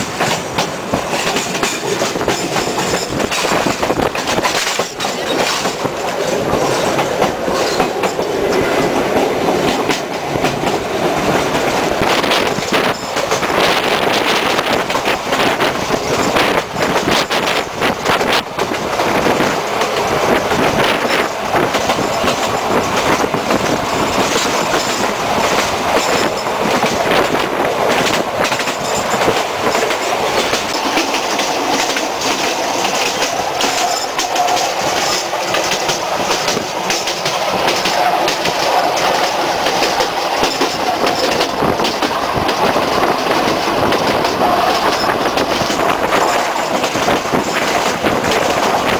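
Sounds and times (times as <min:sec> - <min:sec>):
train wheels rattling over rails: 0:00.0 - 0:48.9.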